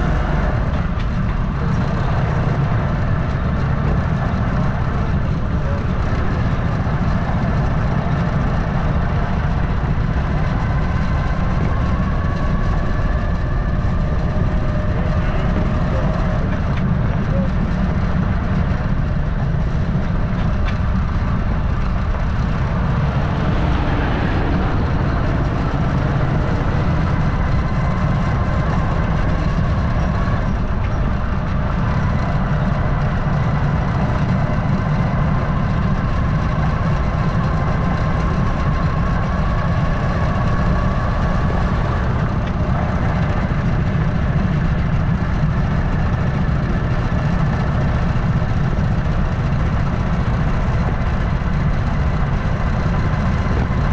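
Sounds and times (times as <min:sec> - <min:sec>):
faint whine: 0:00.0 - 0:53.9
vehicle engine rumbling: 0:00.0 - 0:53.9.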